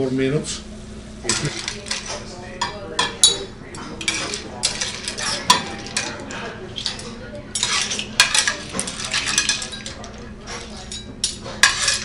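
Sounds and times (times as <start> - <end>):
metal utensils scraping a pan: 1.3 - 2.4, 3.2 - 12.0.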